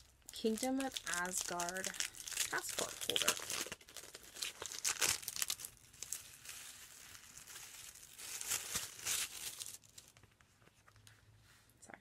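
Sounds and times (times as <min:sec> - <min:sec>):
plastic wrapping crinkling: 0:00.0 - 0:11.1.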